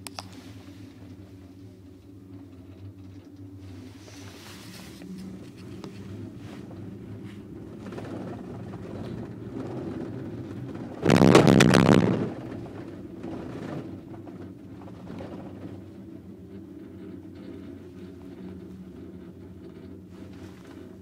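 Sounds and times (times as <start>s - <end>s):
gondola cabin hum: 0.0s - 21.0s
rattling rumble over rollers: 0.4s - 21.0s.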